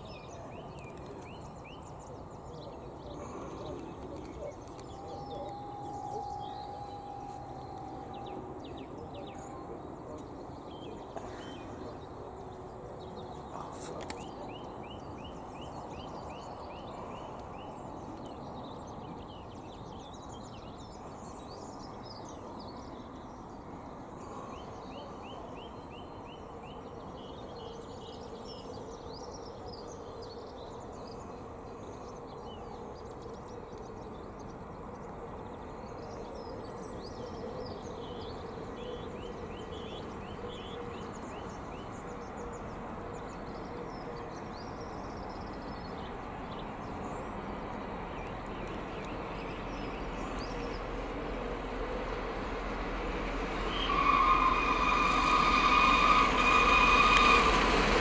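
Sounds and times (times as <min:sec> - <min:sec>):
small birds chirping: 0:00.0 - 0:51.5
steady low background noise: 0:00.0 - 0:58.0.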